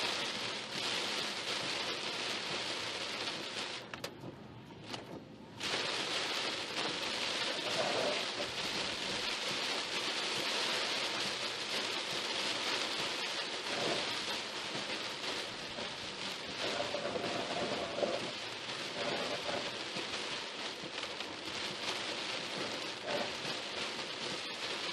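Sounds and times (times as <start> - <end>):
rain pelting a car: 0.0 - 24.9.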